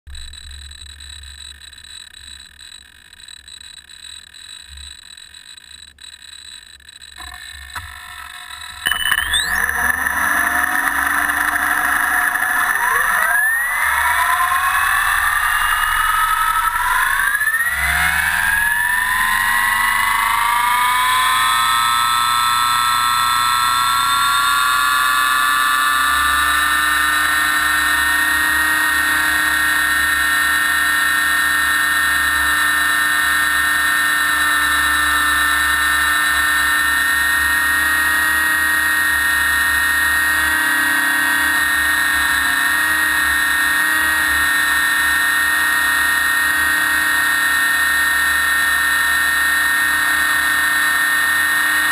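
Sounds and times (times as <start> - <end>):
helicopter motor whining: 0.2 - 51.9.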